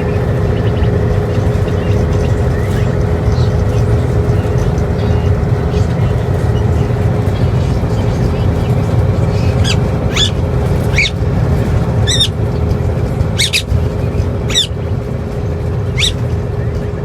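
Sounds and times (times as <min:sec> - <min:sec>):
parrot chirping: 0:00.0 - 0:12.5, 0:13.2 - 0:15.0, 0:15.7 - 0:16.8
loud low rumble: 0:00.0 - 0:17.0.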